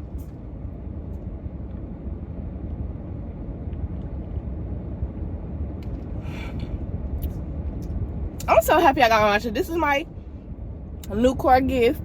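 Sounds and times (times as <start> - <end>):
car cabin low rumble: 0.0 - 12.0.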